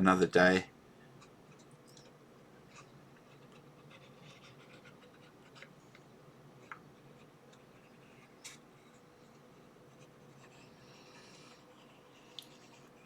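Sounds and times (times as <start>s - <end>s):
faint scratching: 1.1s - 6.0s, 6.6s - 13.0s.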